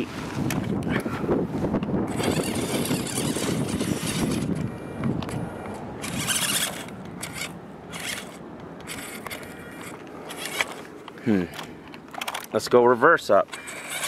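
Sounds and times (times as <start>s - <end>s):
rubber tyres scrabbling over dirt: 0.0s - 11.3s
electric motor and gearbox whining: 0.0s - 14.0s.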